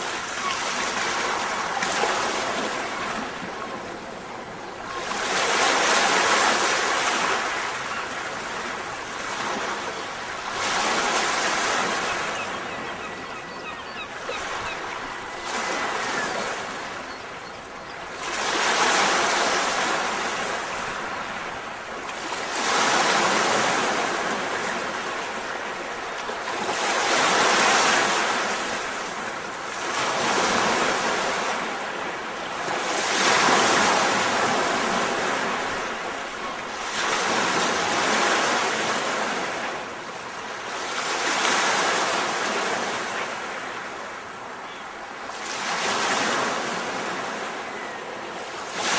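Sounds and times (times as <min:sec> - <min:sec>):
waves washing onto shore: 0:00.0 - 0:48.9.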